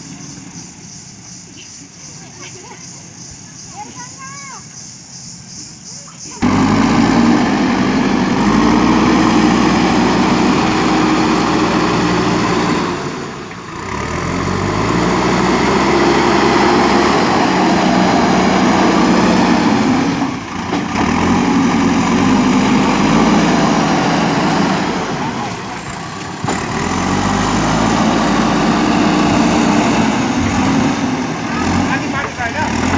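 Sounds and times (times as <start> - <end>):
diesel engine running: 0.0 - 4.6, 5.4 - 32.9.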